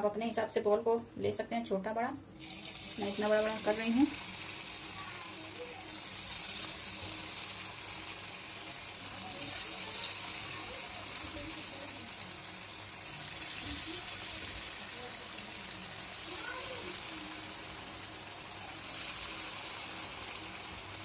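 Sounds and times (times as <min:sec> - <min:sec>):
oil sizzling as batter fries: 0:02.2 - 0:21.0.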